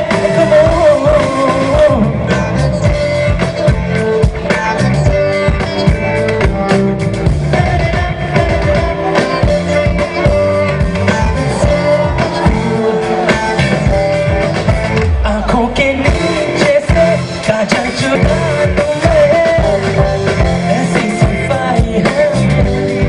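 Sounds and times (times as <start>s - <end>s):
drum kit beat: 0.0s - 23.0s
guitar: 0.0s - 23.0s
live band playing pop music: 0.0s - 23.0s.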